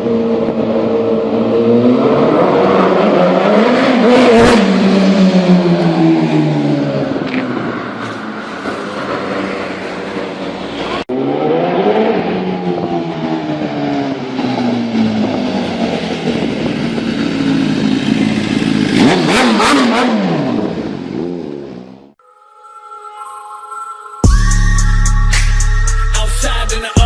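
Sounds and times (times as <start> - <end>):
motorcycle engine revving: 0.0 - 22.2.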